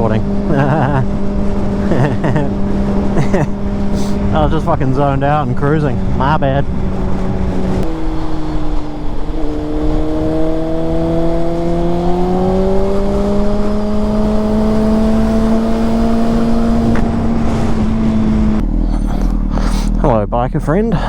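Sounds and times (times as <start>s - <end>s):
wind rush: 0.0s - 20.0s.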